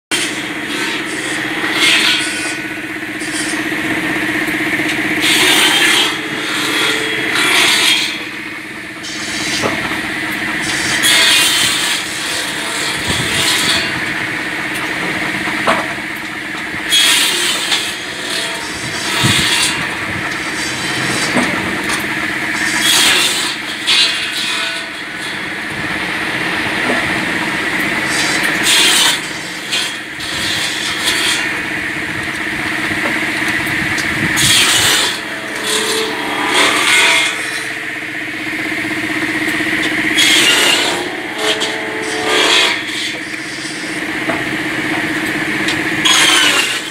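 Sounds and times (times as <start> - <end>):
saw blade cutting through wood: 0.1 - 46.9
steady motor hum: 0.1 - 46.9.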